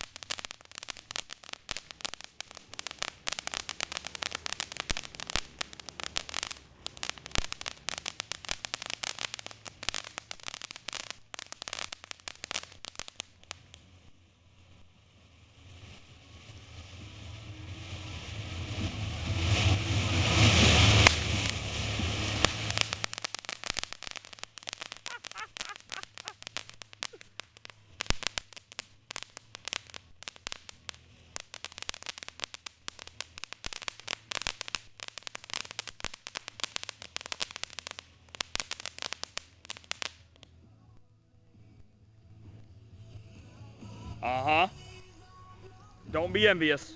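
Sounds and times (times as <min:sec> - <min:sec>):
firework crackling pops: 0:00.0 - 0:40.6, 0:42.4 - 0:46.9
firework fountain hissing: 0:00.0 - 0:40.6, 0:42.5 - 0:46.9.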